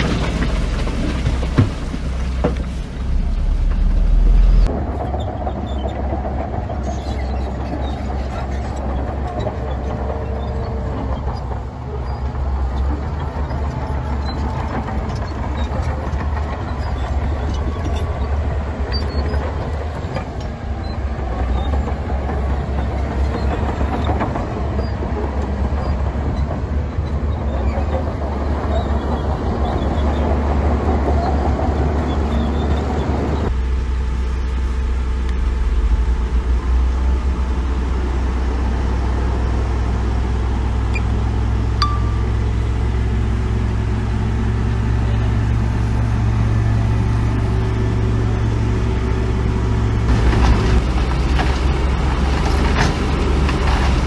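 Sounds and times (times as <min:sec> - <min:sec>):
heavy diesel machinery rumbling: 0:00.0 - 0:54.0.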